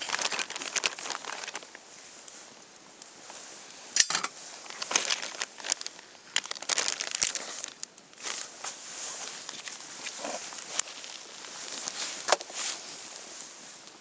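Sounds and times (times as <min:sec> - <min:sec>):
crinkling and rustling: 0:00.0 - 0:14.0.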